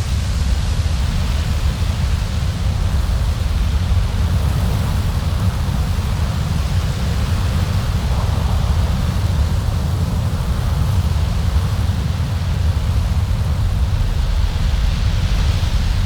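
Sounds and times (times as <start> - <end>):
storm wind rumbling and hissing: 0.0 - 16.0.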